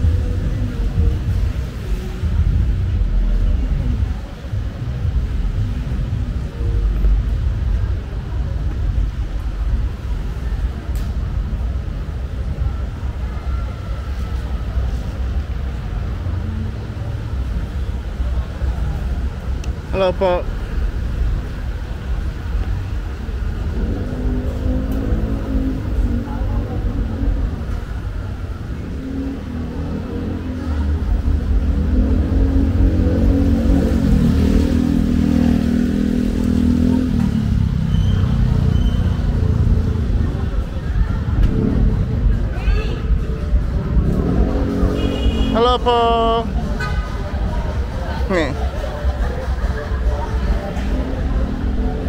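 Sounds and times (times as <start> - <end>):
traffic rumble: 0.0 - 52.0.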